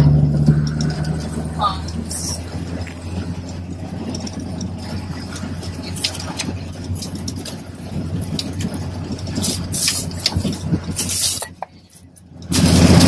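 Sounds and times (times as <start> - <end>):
car engine humming from cabin: 0.0 - 11.3.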